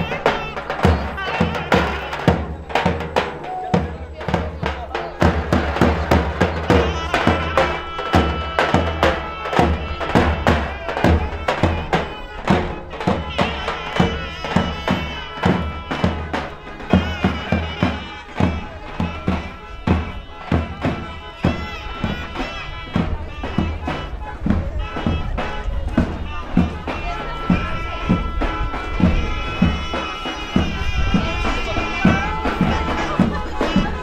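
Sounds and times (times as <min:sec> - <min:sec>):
steady drum beat: 0:00.0 - 0:34.0
wind instrument melody: 0:00.0 - 0:34.0.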